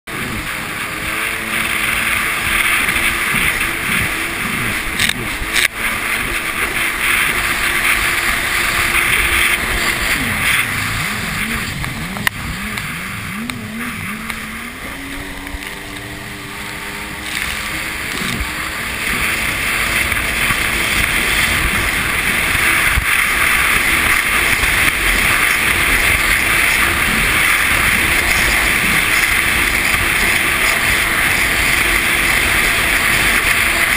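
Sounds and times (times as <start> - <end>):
jet ski engine: 0.0 - 33.9
water rushing over hull: 0.1 - 33.9
wind rushing: 1.6 - 29.5.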